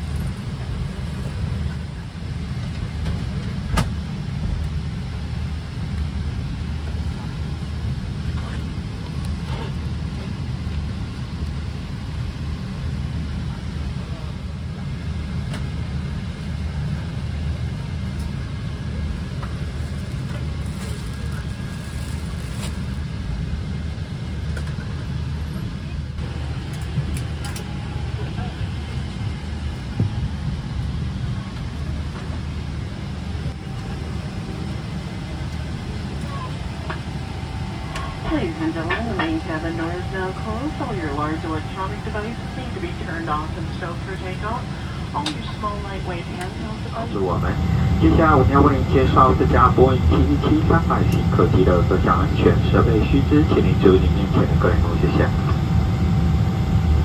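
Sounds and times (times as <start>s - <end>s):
aircraft cabin ventilation rumble: 0.0s - 57.0s.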